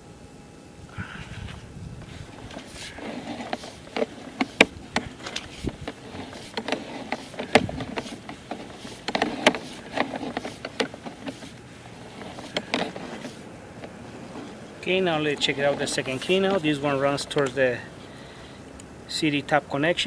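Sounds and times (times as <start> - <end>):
sharp clicks and knocks of gear: 2.0 - 18.9.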